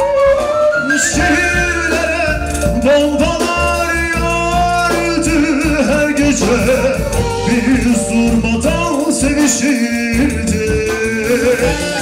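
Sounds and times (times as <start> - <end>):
drums: 0.0 - 12.0
man singing: 0.0 - 12.0.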